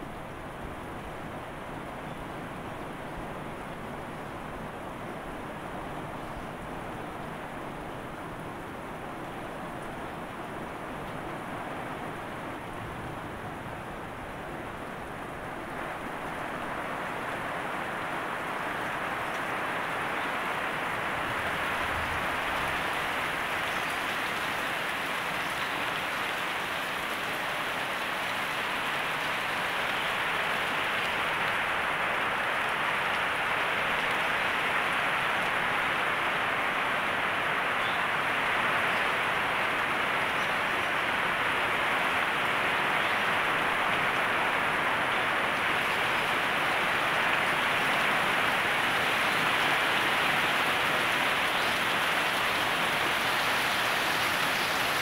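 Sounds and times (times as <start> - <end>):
heavy rain on leafy plants: 0.0 - 55.0.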